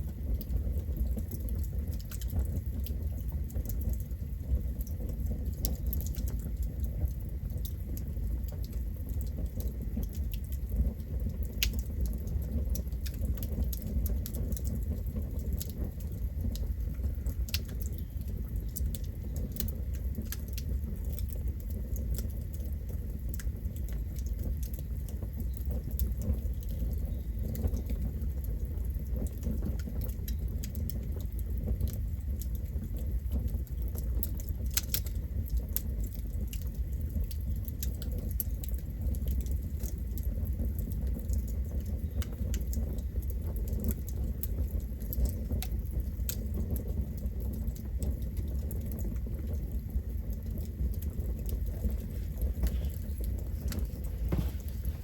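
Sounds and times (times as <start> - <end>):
campfire rumble: 0.0 - 55.0
wood crackling and popping: 0.0 - 55.0.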